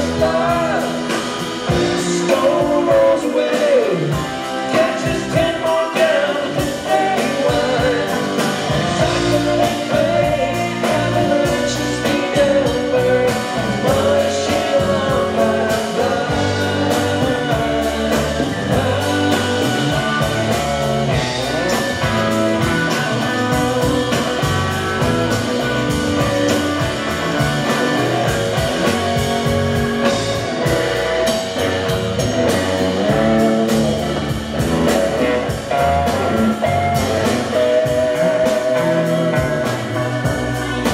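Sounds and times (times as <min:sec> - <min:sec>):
bass guitar: 0:00.0 - 0:40.9
drum kit: 0:00.0 - 0:40.9
electric guitar: 0:00.0 - 0:40.9
keyboards: 0:00.0 - 0:40.9
person singing: 0:00.0 - 0:40.9.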